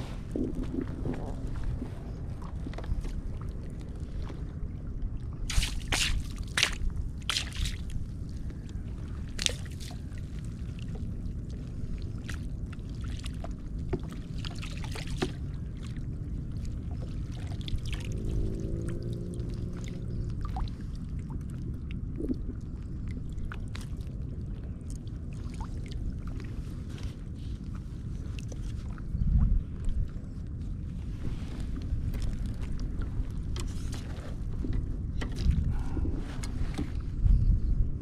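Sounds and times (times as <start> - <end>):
water splashing around a kayak: 0.0 - 37.5
steady low rumble: 0.0 - 38.0.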